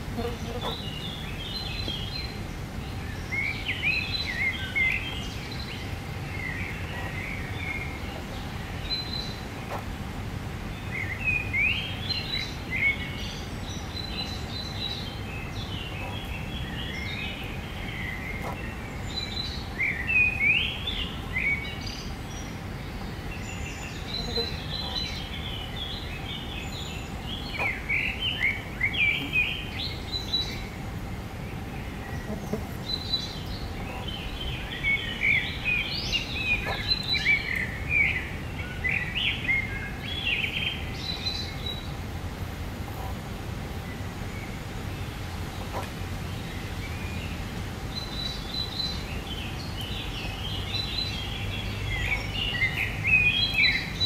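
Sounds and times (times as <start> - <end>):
songbird chirping: 0.0 - 54.0
steady background hiss: 0.0 - 54.0.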